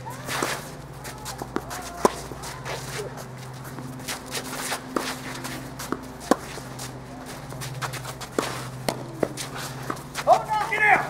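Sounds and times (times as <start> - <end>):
tennis ball hits and bounces: 0.1 - 10.5.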